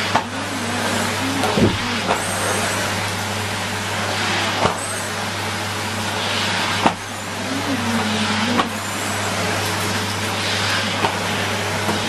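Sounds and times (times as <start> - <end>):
vacuum cleaner running: 0.0 - 12.0
vacuum floor tool on carpet: 0.0 - 12.0.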